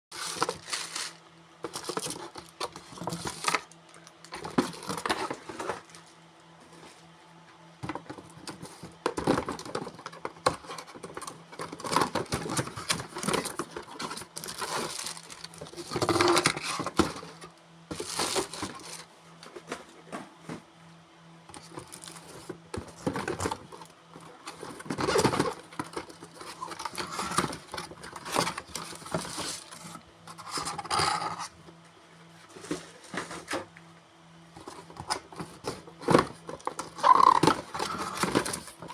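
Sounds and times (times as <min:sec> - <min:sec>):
rustling and crinkling: 0:00.1 - 0:20.8, 0:21.5 - 0:33.8, 0:34.5 - 0:38.9.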